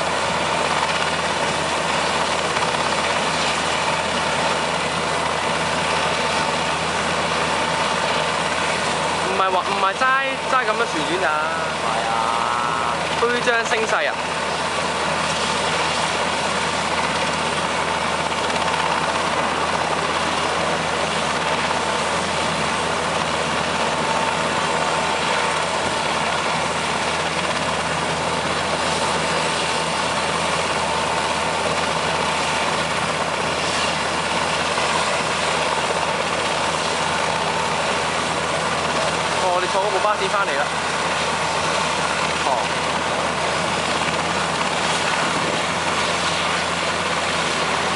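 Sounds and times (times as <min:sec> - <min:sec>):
helicopter rotor and engine noise: 0:00.0 - 0:47.9
helicopter turbine whine: 0:00.0 - 0:47.9.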